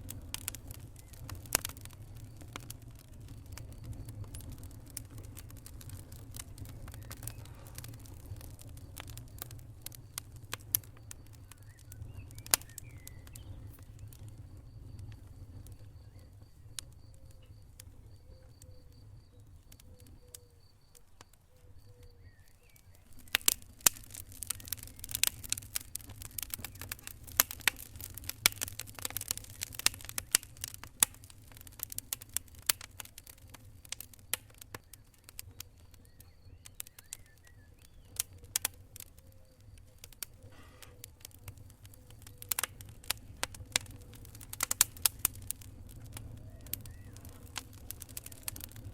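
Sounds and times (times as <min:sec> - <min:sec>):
low rumble of flames: 0:00.0 - 0:48.9
wood fire crackling and popping: 0:00.0 - 0:48.9.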